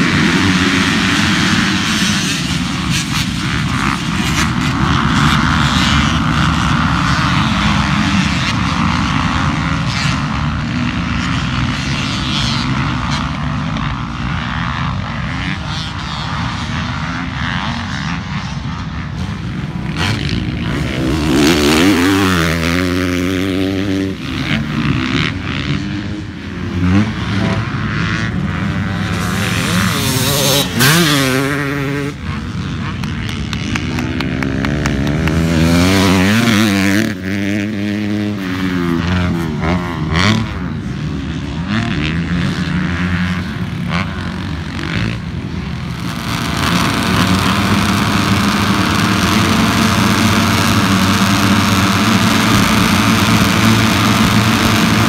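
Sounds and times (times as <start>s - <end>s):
dirt bike engine revving: 0.0s - 55.0s
dirt bikes racing: 0.0s - 55.0s.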